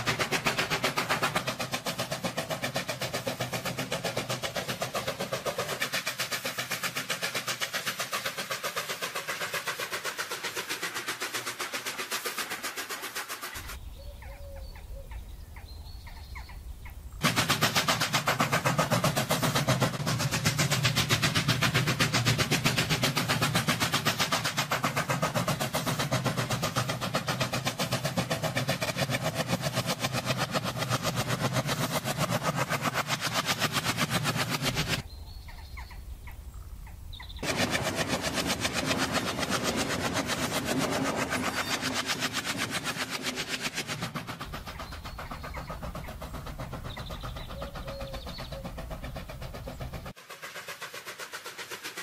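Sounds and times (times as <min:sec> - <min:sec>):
train wheels clacking over rails: 0:00.0 - 0:13.8, 0:17.2 - 0:36.4, 0:37.2 - 0:52.0.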